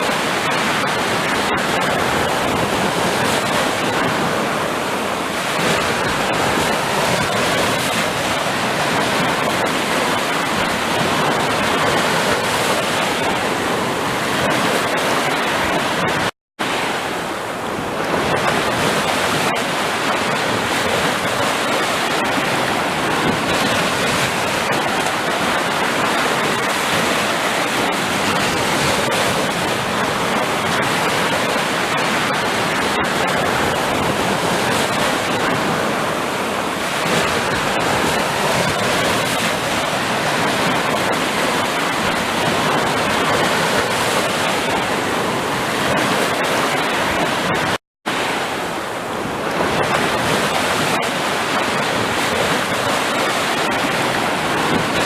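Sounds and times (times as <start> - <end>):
sea surf on shore: 0.0 - 55.0.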